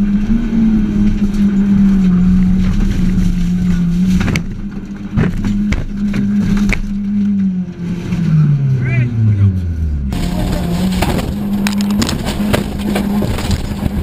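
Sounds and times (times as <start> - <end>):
rally engine revving hard: 0.0 - 14.0.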